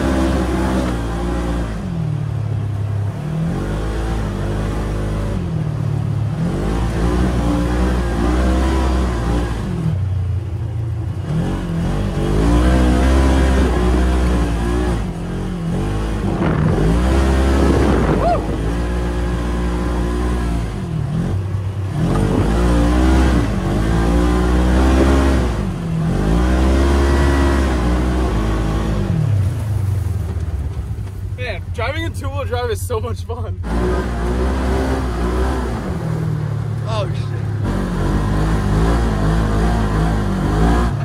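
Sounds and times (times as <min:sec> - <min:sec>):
vehicle engine revving: 0:00.0 - 0:32.6, 0:33.3 - 0:41.0.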